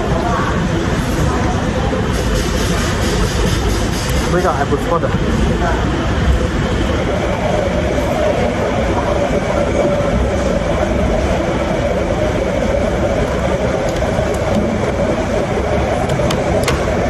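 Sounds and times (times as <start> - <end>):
air conditioning hum: 0.0 - 17.0.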